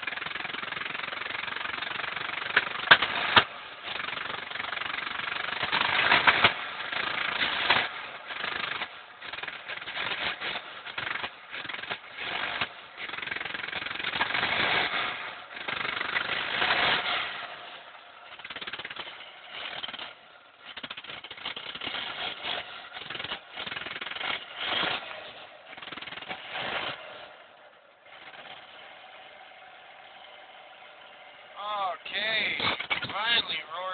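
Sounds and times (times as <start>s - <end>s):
car engine misfiring: 0.1s - 17.6s, 18.2s - 27.3s, 32.1s - 33.9s.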